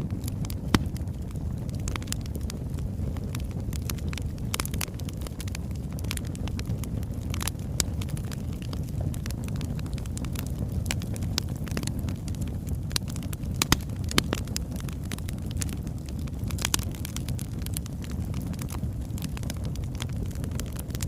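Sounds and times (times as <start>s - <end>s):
logs crackling and popping: 0.0s - 21.0s
roar of flames: 0.0s - 21.0s.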